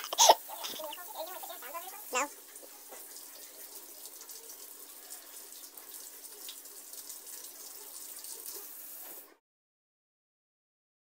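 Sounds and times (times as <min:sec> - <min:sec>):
faucet running: 0:00.0 - 0:09.3
hands rinsed under water: 0:00.0 - 0:09.3.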